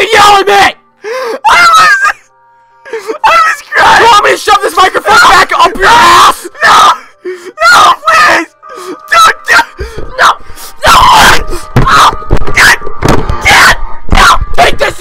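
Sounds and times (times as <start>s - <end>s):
person wailing and sobbing: 1.0s - 15.0s.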